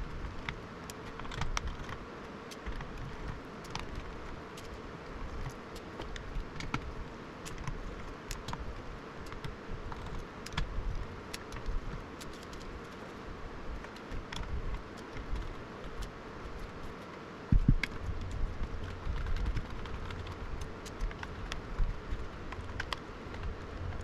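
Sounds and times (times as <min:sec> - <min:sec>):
background hum and hiss: 0:00.0 - 0:24.0.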